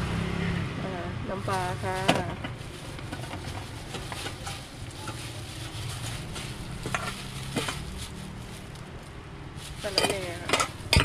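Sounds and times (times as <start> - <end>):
crisp rice crackling: 1.4 - 11.0.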